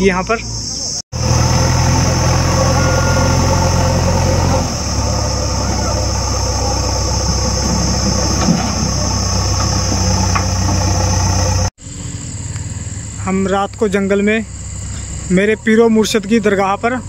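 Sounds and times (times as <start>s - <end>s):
diesel engine running: 1.1s - 17.0s.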